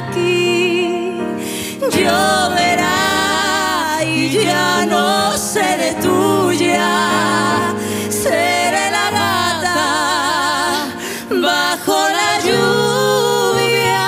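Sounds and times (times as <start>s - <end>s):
grand piano: 0.0s - 14.0s
woman and man singing duet: 0.0s - 14.0s.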